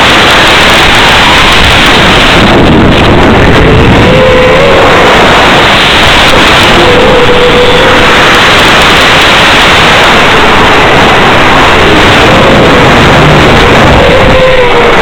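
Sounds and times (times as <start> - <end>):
drone motors whining: 0.0 - 15.0
loud steady radio hiss: 0.0 - 15.0.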